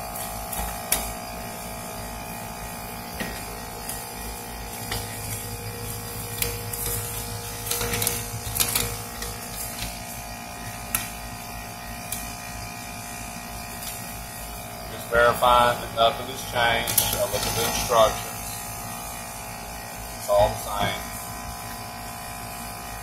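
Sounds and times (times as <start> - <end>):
air conditioning unit humming: 0.0 - 23.0.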